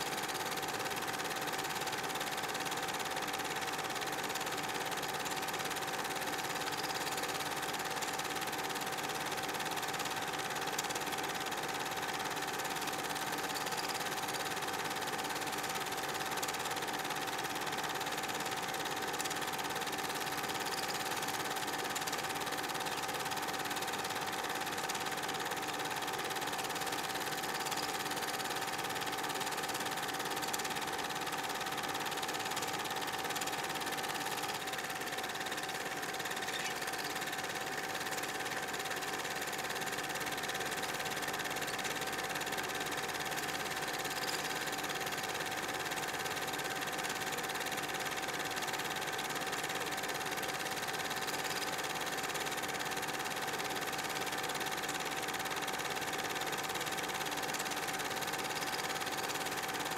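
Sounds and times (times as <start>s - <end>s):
film projector whirring and clattering: 0.0s - 59.9s.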